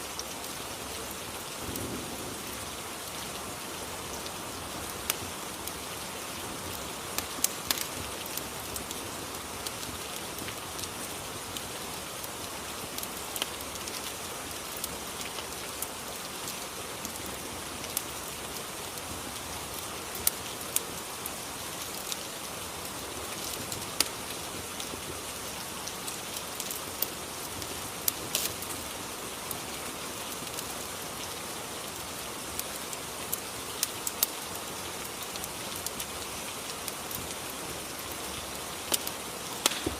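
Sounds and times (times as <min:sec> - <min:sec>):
fire crackling: 0:00.0 - 0:39.9
steady rain: 0:00.0 - 0:39.9.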